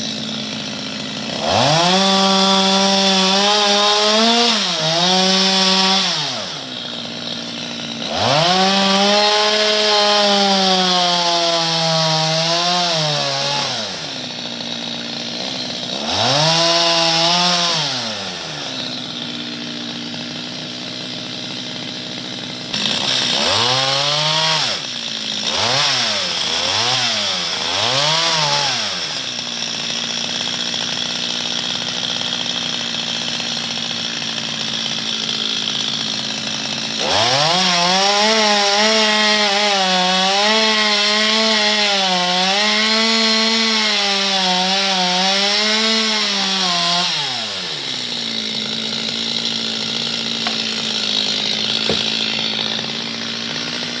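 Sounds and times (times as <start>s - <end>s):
chainsaw revving and cutting wood: 0.0s - 54.0s.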